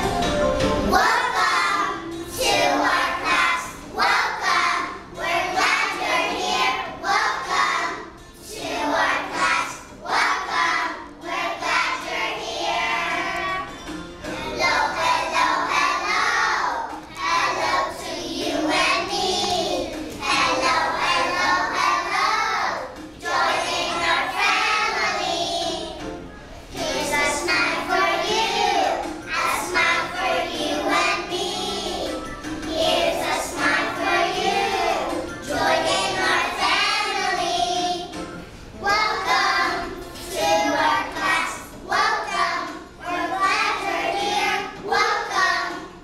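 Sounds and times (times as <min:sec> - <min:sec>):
children singing in unison: 0:00.0 - 0:46.0.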